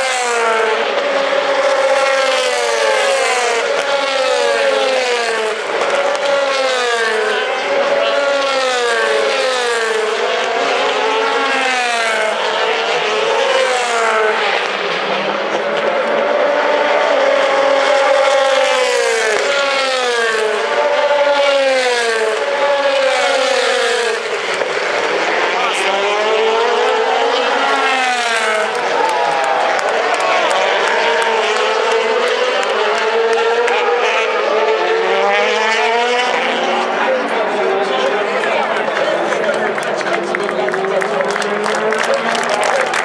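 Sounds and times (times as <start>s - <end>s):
race car engines: 0.0s - 43.0s.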